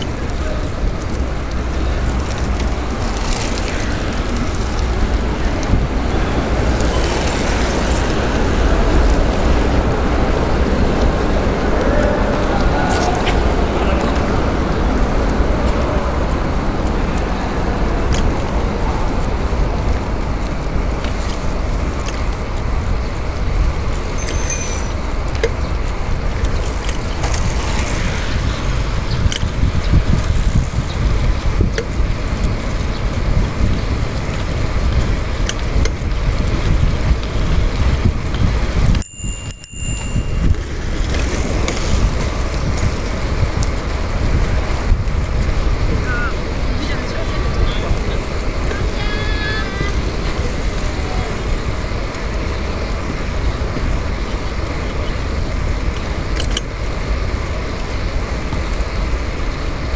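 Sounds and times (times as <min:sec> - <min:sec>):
bicycle rolling noise: 0:00.0 - 0:59.9
rushing wind: 0:00.0 - 0:59.9.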